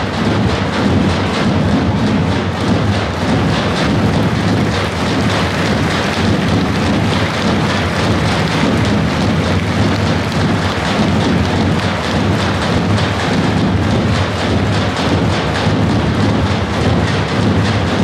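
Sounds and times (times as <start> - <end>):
folk drums beaten fast: 0.0 - 18.0.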